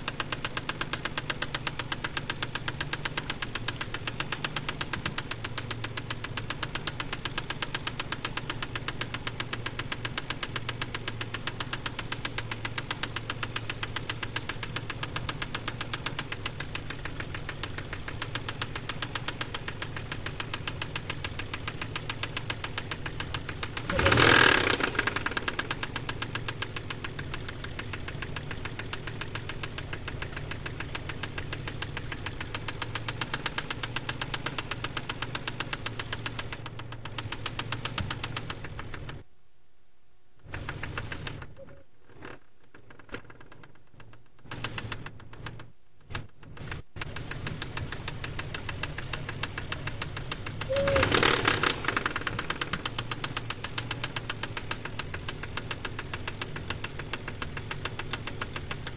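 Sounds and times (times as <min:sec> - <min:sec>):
rapid sharp engine knock: 0:00.0 - 0:39.2, 0:40.4 - 0:41.6, 0:42.2 - 0:58.9
car engine running: 0:00.0 - 0:39.3, 0:40.4 - 0:58.9.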